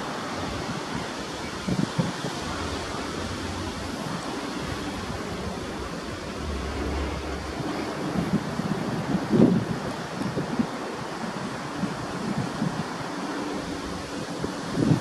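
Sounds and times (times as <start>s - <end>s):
distant freight train rumbling: 0.0s - 15.0s
wind buffeting microphone: 0.0s - 15.0s.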